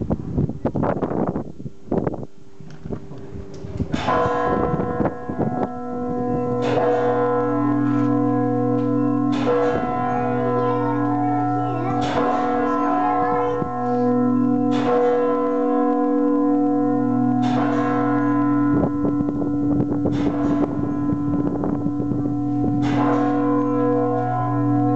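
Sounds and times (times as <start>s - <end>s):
deep bell hum: 1.8s - 24.9s
large church bell tolling: 3.1s - 24.9s.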